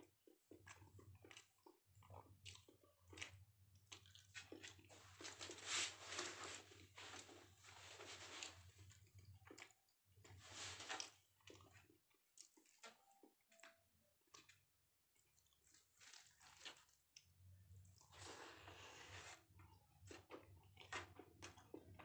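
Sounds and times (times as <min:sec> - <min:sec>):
person chewing: 0:00.3 - 0:13.0, 0:15.2 - 0:17.3, 0:17.9 - 0:22.0.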